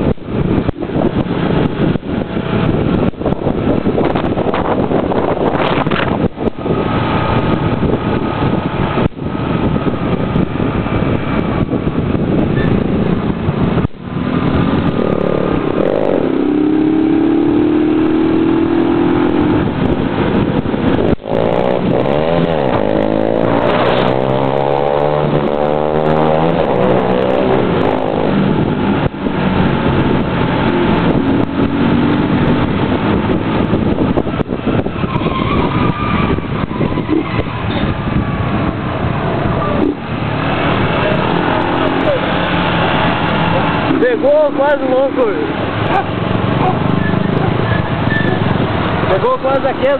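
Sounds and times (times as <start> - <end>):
motorcycle engines revving: 0.0 - 49.9.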